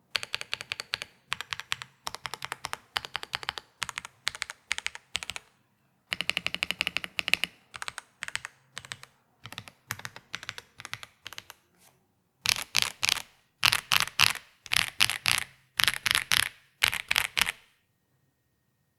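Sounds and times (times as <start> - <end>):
mechanical keyboard typing: 0.1 - 11.6, 12.5 - 17.6.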